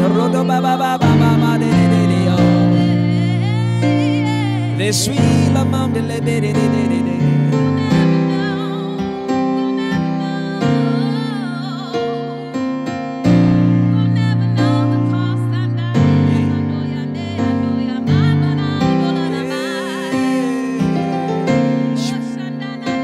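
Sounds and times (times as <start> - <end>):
electric keyboard chords: 0.0 - 23.0
sung melody: 0.0 - 23.0.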